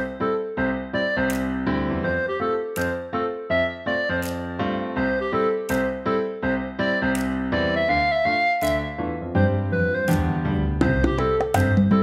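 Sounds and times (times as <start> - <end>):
light keyboard tune: 0.0 - 12.0.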